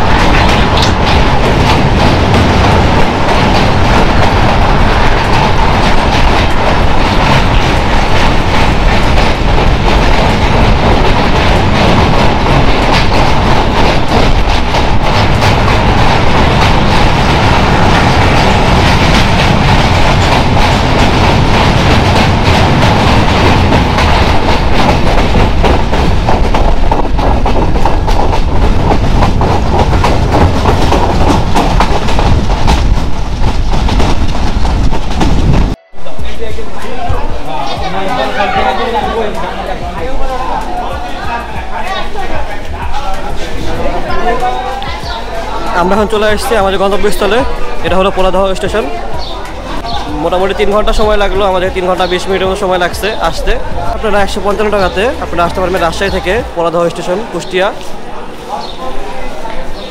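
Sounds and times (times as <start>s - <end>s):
wheels clattering over rail joints: 0.0s - 57.9s
passenger train rumbling: 0.0s - 59.9s.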